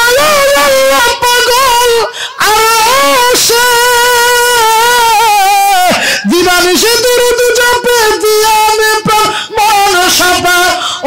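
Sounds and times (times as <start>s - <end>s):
man singing long note: 0.0s - 11.0s.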